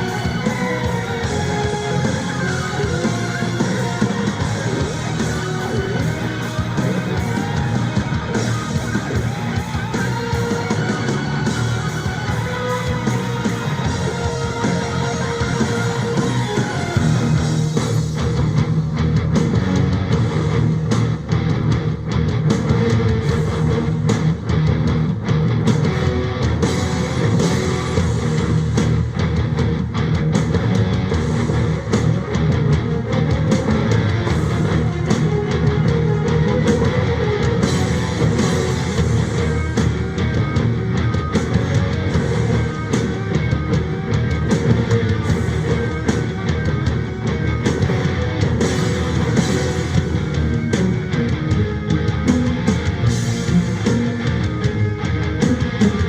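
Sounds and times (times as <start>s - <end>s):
distorted electric guitars: 0.0s - 56.0s
drum kit beat: 0.0s - 56.0s.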